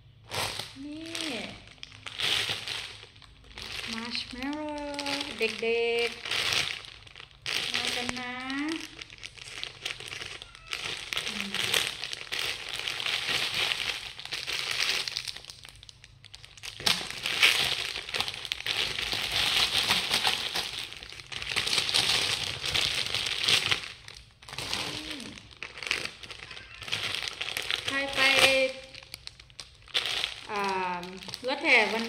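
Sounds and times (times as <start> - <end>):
bags tearing open: 0.3 - 32.0
plastic bags crinkling: 0.3 - 32.0.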